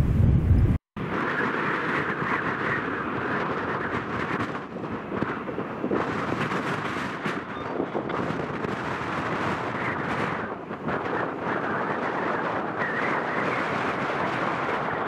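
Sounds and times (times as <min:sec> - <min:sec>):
jet engine roar: 0:00.0 - 0:15.0
wind rumble on microphone: 0:00.0 - 0:15.0.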